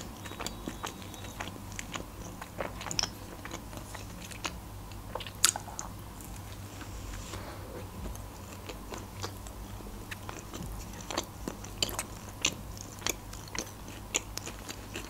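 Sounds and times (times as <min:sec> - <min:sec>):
chewing with wet mouth clicks: 0:00.0 - 0:06.7, 0:08.0 - 0:15.0.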